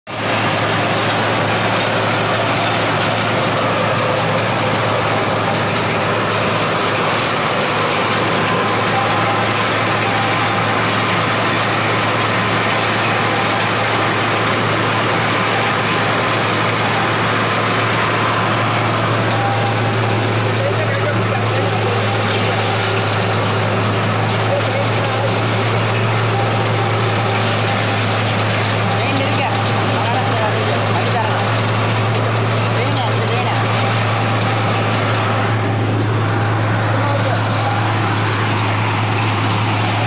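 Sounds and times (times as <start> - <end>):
stripping machine droning: 0.0 - 40.0.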